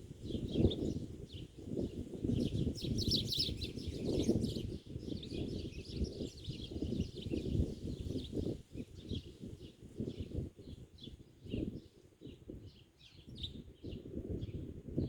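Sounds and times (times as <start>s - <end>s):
small birds chirping: 2.3s - 14.6s.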